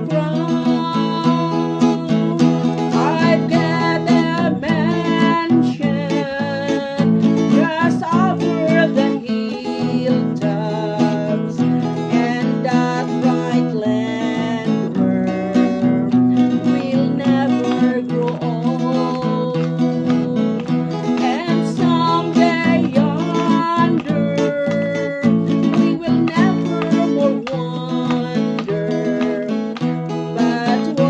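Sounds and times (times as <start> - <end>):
person singing: 0.0 - 31.0
strummed acoustic guitar: 0.0 - 31.0.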